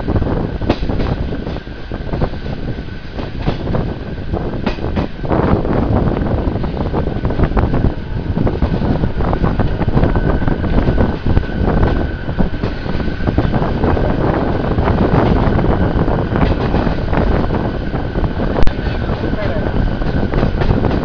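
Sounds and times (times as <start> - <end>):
train rumbling on rails: 0.0 - 21.0
wind buffeting microphone: 0.0 - 21.0.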